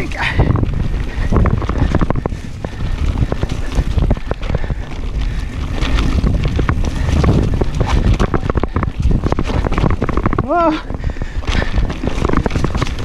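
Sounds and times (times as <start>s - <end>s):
bike knocking and rattling: 0.0s - 13.0s
wind rushing over microphone: 0.0s - 13.0s.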